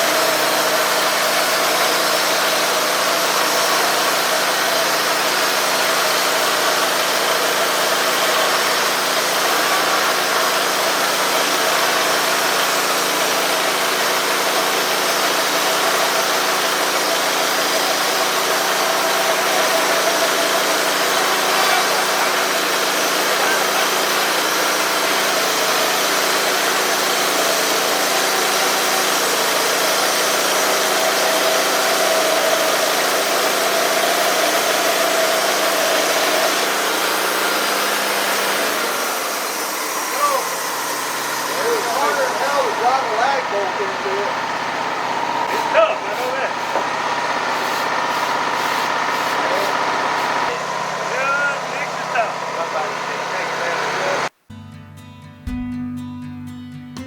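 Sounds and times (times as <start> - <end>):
band sawmill cutting wood: 0.0 - 54.4.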